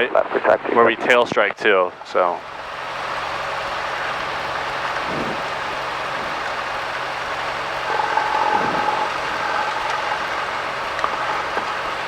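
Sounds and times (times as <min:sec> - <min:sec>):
plane engine drone in cabin: 0:00.0 - 0:12.0
steady tone: 0:01.0 - 0:12.0.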